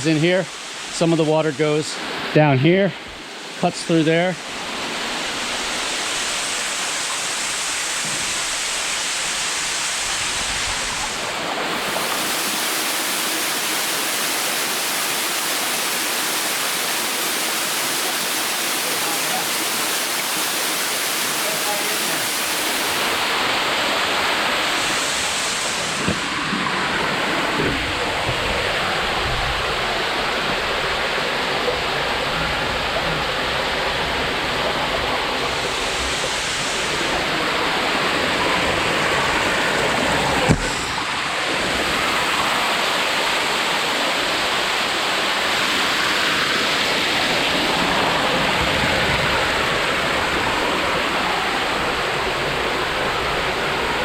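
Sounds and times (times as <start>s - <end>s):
waterfall rushing: 3.2s - 54.0s.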